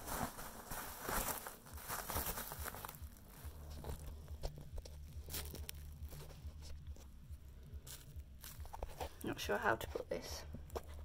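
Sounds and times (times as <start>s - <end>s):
bubble wrap crinkling: 0.0s - 11.0s
low steady hum: 0.0s - 11.0s.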